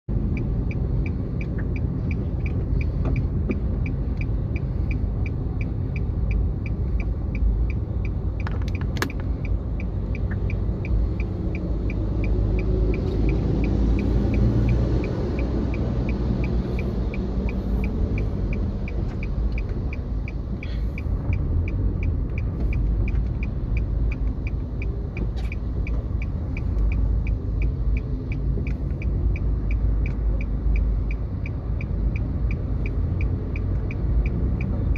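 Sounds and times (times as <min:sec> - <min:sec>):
vehicle engine rumble: 0:00.1 - 0:34.9.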